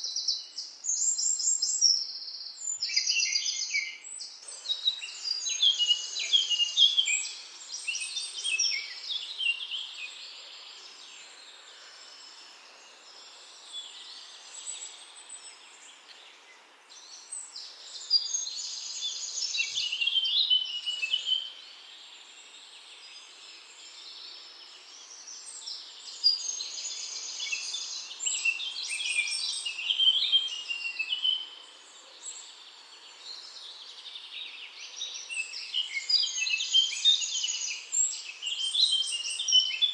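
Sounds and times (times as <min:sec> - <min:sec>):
faint background hiss: 0:00.0 - 0:39.9
songbird chirping: 0:00.0 - 0:39.9.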